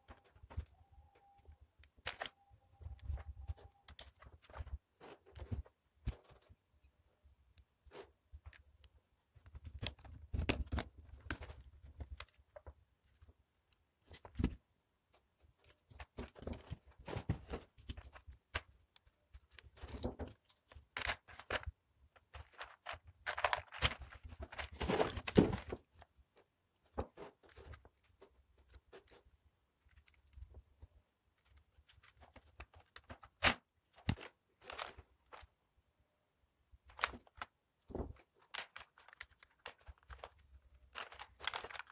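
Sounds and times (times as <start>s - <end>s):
plastic parts clicking and rattling: 0.0s - 35.6s, 36.8s - 41.9s.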